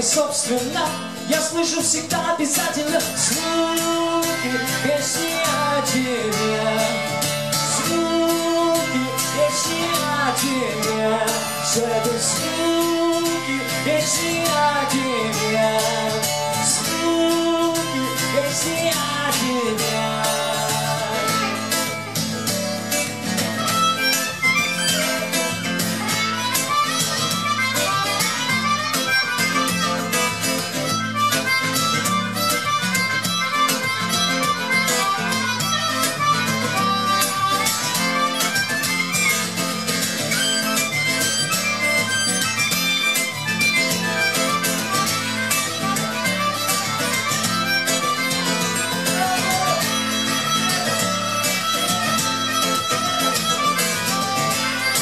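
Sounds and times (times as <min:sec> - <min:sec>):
acoustic guitar strumming: 0:00.0 - 0:55.0
harmonica melody: 0:00.0 - 0:55.0.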